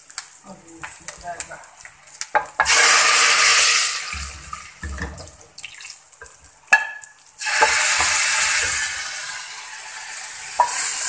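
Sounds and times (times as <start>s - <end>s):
hot oil sizzling in liquid: 0.0s - 11.0s.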